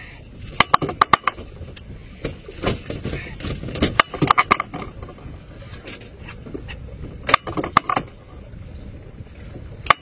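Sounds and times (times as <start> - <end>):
water: 0.0 - 10.0
wind: 0.0 - 10.0.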